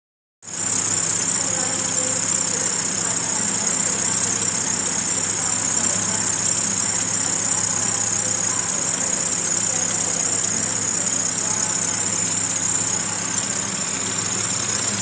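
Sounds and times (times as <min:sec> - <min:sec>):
car engine idling: 0:00.4 - 0:15.0.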